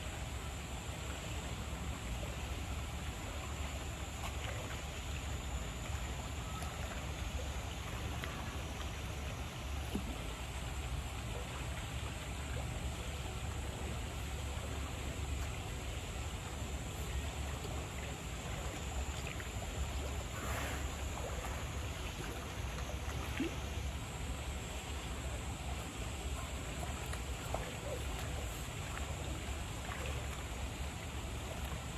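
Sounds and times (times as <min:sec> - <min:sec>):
running water rushing: 0:00.0 - 0:31.9.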